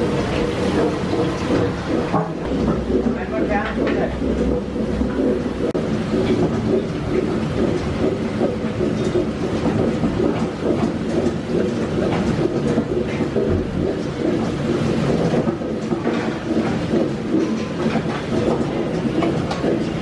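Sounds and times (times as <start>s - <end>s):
train rumbling and rattling: 0.0s - 20.0s.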